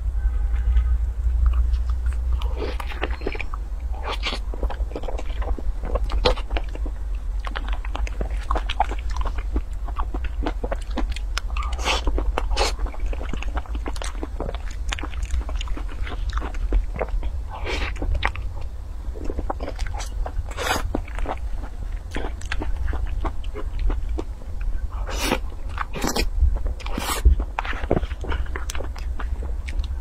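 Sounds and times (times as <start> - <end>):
steady low hum: 0.0 - 30.0
wet smacking and chewing: 0.6 - 30.0.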